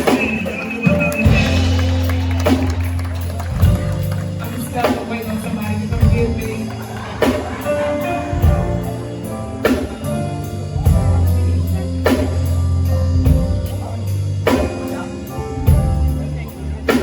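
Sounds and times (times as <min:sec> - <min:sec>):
bass line: 0:00.0 - 0:17.0
drum kit: 0:00.0 - 0:17.0
held keyboard chords: 0:00.0 - 0:17.0.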